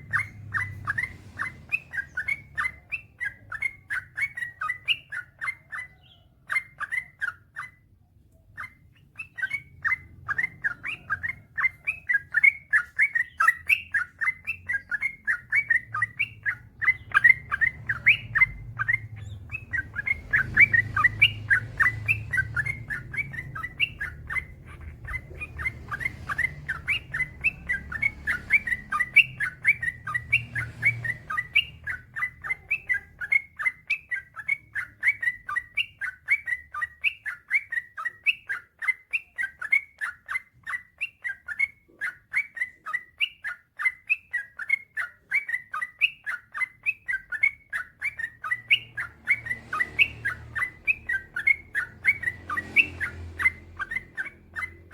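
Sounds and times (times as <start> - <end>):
bird chirping song: 0.0 - 54.9
faint low hum: 0.0 - 54.9.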